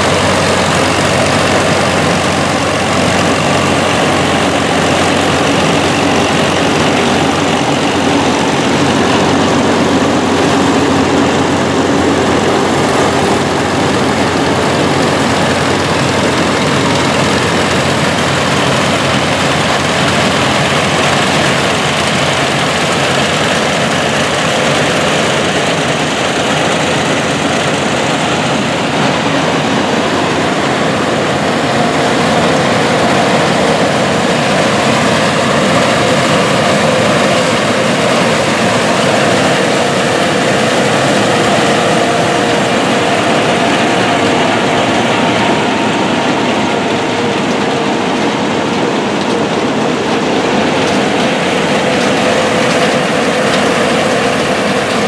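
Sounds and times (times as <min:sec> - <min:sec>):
corn pickers working: 0:00.0 - 0:55.0
tractor engine drone: 0:00.0 - 0:55.0.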